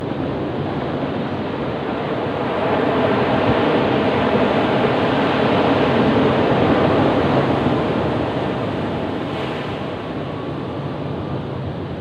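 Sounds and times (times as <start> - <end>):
ocean waves breaking: 0.0 - 11.8.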